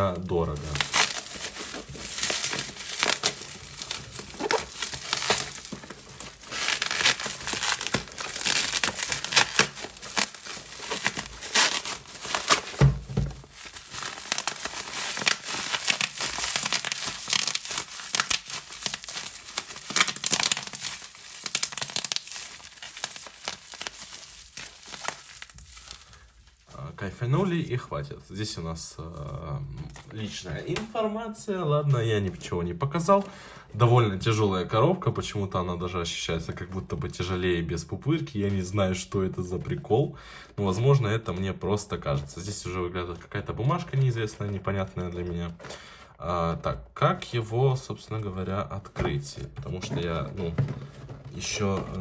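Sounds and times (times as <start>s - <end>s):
bubble wrap crinkling and popping: 0.0s - 27.9s, 36.6s - 52.0s.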